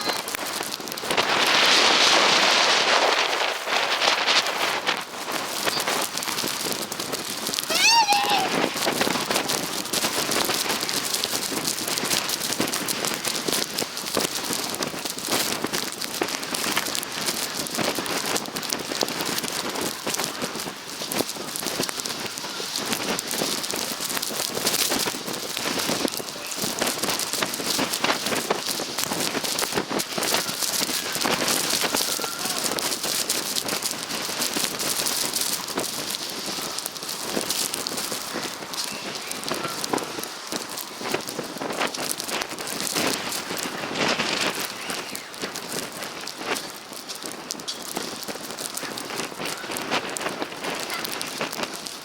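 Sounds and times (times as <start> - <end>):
blizzard wind: 0.0 - 52.0
snow pelting microphone: 0.0 - 52.0.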